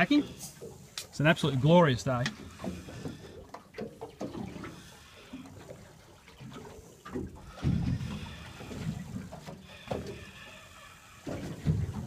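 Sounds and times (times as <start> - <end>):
sea water splashing against boat: 0.0 - 12.0.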